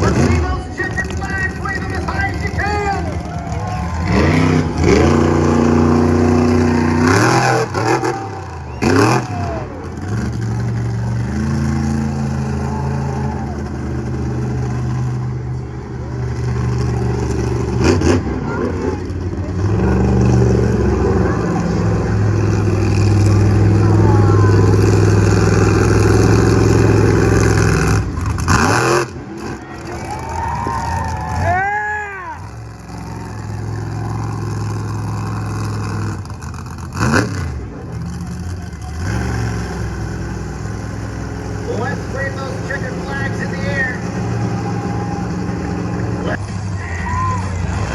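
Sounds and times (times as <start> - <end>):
truck engine revving hard: 0.0 - 47.9.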